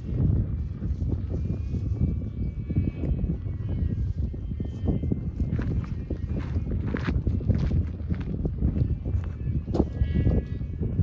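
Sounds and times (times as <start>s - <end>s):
campfire crackling and popping: 0.0s - 4.5s, 5.2s - 11.0s
low rumble of burning: 0.0s - 11.0s.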